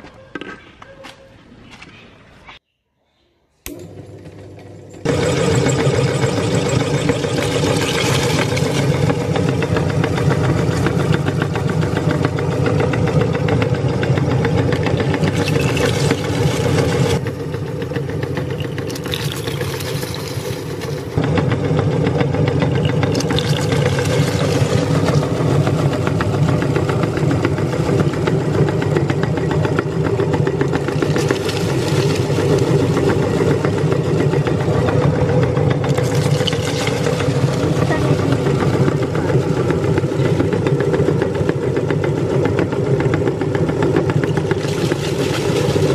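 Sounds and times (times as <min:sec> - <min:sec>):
meat grinder motor hum: 0:03.7 - 0:45.9
cookies grinding: 0:05.0 - 0:21.3, 0:22.4 - 0:41.2, 0:43.8 - 0:45.9.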